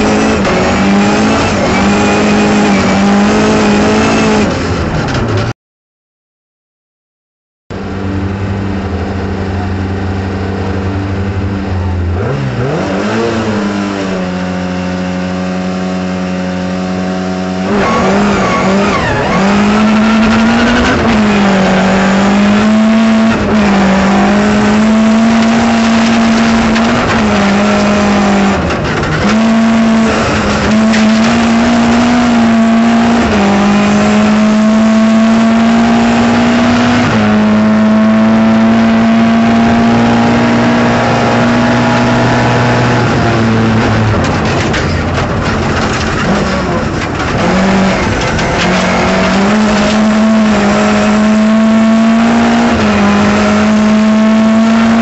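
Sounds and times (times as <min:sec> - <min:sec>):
car engine revving: 0:00.0 - 0:05.5, 0:07.7 - 0:55.0.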